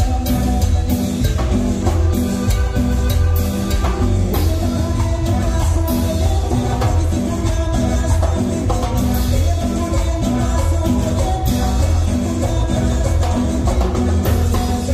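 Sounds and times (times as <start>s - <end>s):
latin dance band playing: 0.0s - 14.9s.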